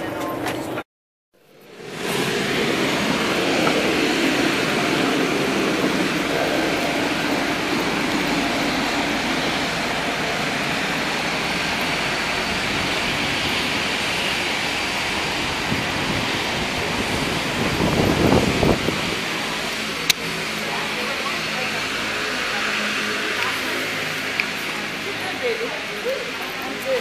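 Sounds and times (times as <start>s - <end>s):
low rumbling: 1.4s - 25.2s
aircraft engine noise: 1.4s - 27.0s
rain: 1.4s - 27.0s.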